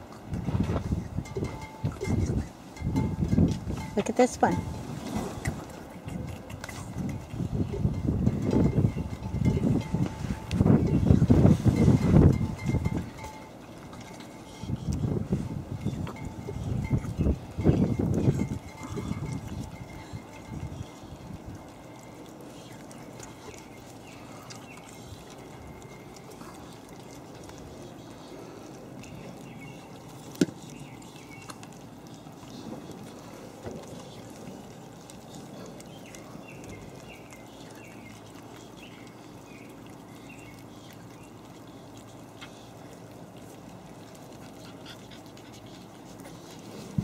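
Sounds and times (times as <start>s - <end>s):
puppies lapping and chewing: 0.0s - 47.0s.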